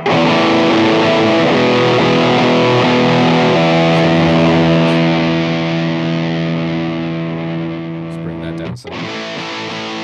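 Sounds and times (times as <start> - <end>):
distorted electric guitar chord: 0.0 - 10.0.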